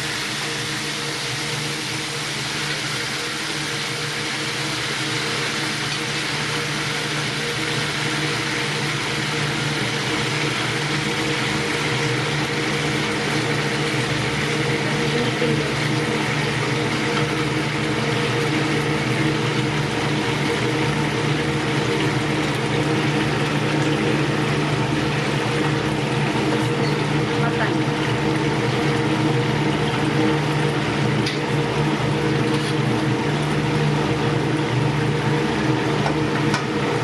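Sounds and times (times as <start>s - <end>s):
lobster sizzling in butter: 0.0s - 37.0s.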